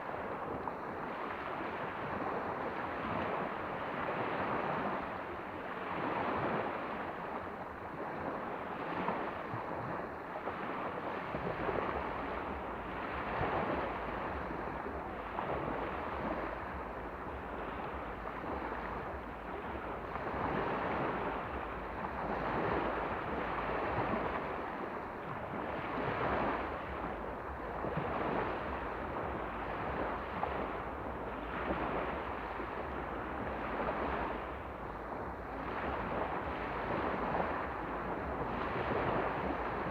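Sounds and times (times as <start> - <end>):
waves washing onto shore: 0.0 - 39.9
wind rumbling on microphone: 0.0 - 39.9.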